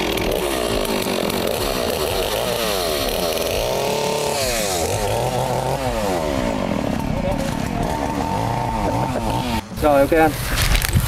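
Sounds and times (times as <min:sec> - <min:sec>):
chainsaw revving unloaded: 0:00.0 - 0:11.0.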